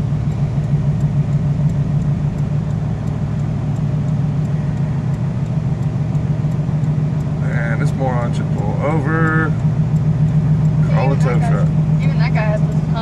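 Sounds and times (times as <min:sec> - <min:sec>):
car engine and road drone: 0:00.0 - 0:13.0
hazard light flasher ticking: 0:00.0 - 0:13.0.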